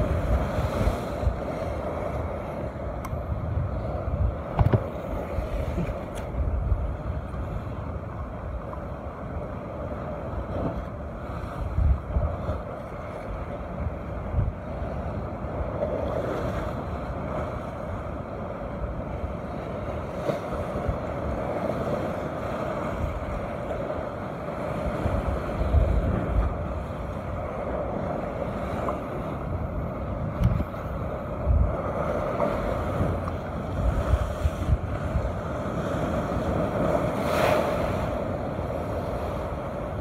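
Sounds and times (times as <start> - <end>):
surf washing against rocks: 0.0 - 40.0
wind buffeting microphone: 0.0 - 40.0.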